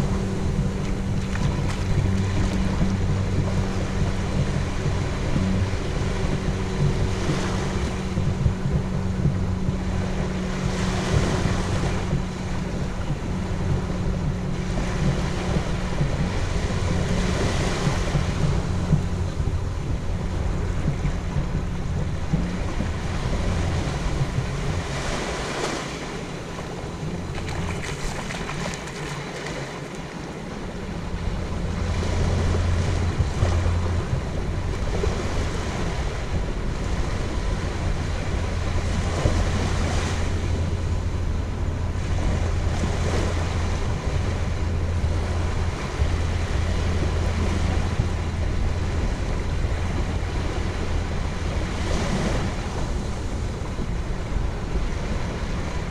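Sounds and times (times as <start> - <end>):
surf washing onto beach: 0.0 - 55.9
wind rumbling on microphone: 0.0 - 55.9.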